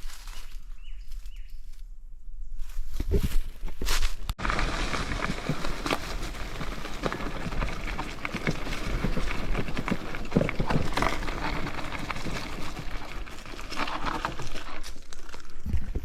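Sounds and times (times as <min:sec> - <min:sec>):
bicycle rattling on rough trail: 0:03.1 - 0:16.0.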